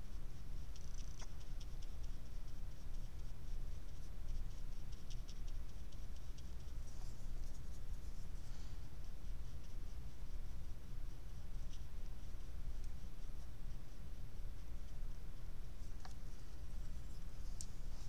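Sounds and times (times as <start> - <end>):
brush scratching on paper: 0.0 - 18.0
steady low hum: 0.0 - 18.0.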